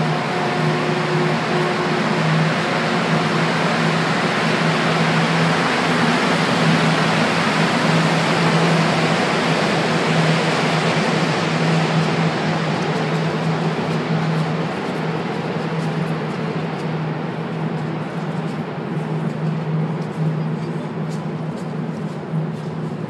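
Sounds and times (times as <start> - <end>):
train rushing past platform: 0.0 - 18.9
low hum: 0.0 - 20.1.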